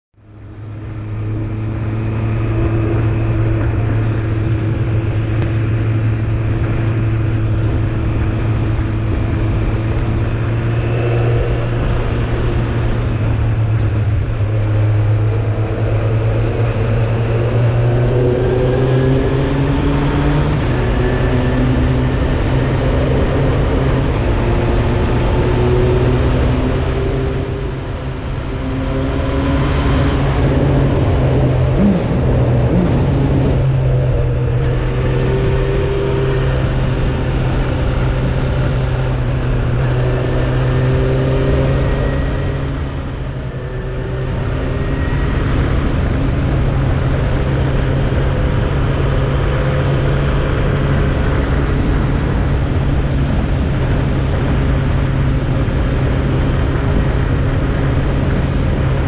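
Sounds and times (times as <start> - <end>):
road noise: 0.1 - 59.0
motorcycle engine running: 0.2 - 59.0.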